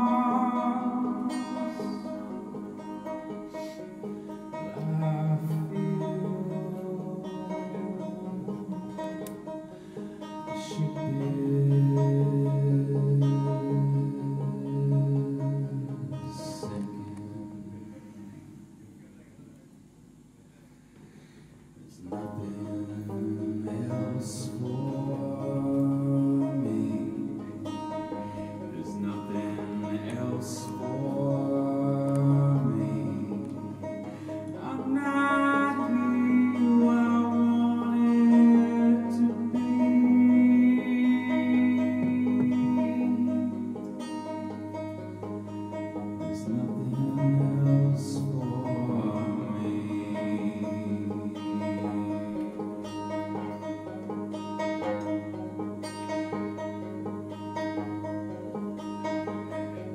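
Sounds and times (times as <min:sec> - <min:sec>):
man singing folk song: 0:00.0 - 0:18.6, 0:21.9 - 0:59.9
plucked banjo: 0:00.0 - 0:19.6, 0:21.3 - 0:59.9.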